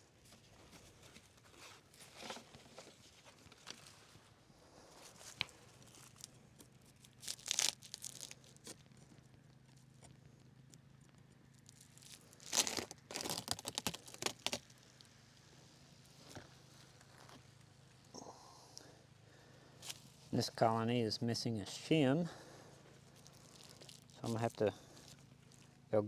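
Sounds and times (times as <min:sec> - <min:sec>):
beehive crackling and scraping: 0:00.1 - 0:18.1, 0:21.5 - 0:25.9.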